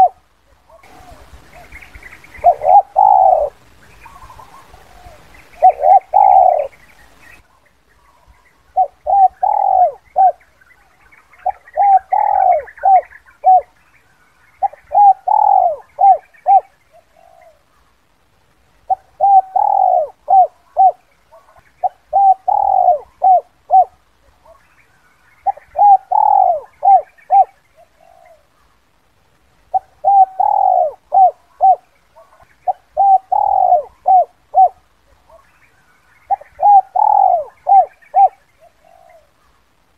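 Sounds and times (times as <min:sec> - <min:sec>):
dove cooing: 0:00.0 - 0:10.5, 0:11.4 - 0:13.8, 0:14.6 - 0:17.7, 0:18.8 - 0:24.7, 0:25.4 - 0:28.6, 0:29.7 - 0:35.6, 0:36.2 - 0:39.5
small birds chirping: 0:00.0 - 0:39.9.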